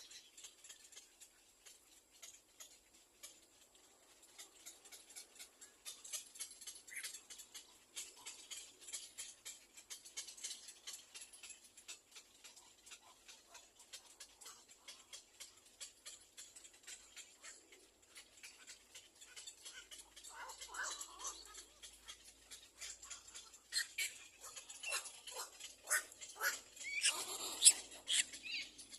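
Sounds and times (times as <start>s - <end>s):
faint rapid clicking and rustling: 0.0s - 28.9s.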